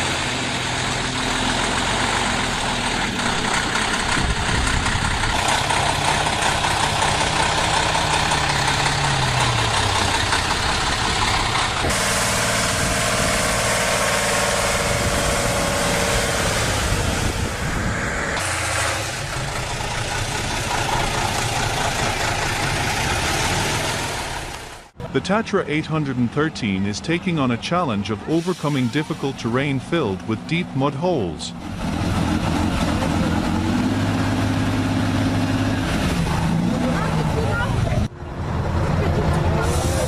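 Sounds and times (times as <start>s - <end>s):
heavy truck engines running: 0.0s - 40.0s.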